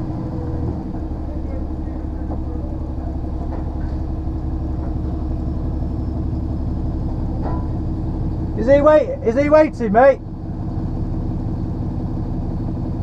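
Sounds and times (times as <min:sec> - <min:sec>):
lorry diesel engine idling: 0:00.0 - 0:13.0.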